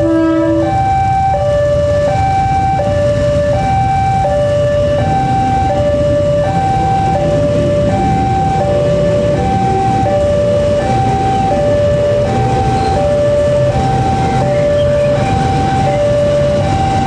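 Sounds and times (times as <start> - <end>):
electric train rumbling past: 0.0 - 17.0
level crossing alarm two-tone: 0.0 - 17.0.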